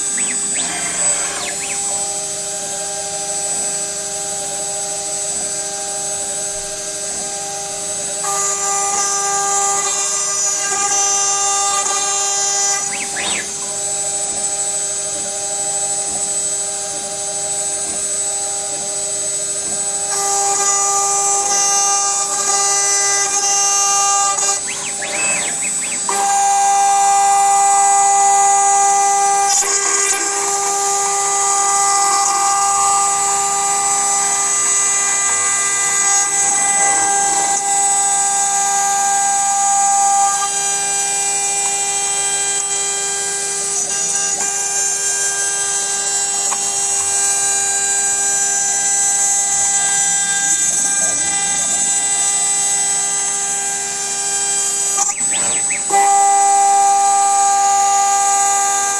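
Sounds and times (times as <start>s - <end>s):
router spindle whining: 0.0s - 58.9s.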